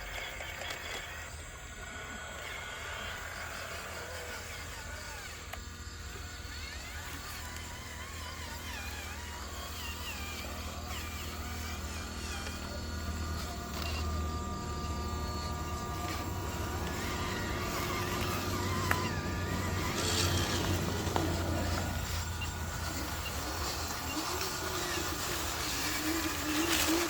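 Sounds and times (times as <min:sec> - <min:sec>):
small electric motors whining: 0:00.0 - 0:27.0.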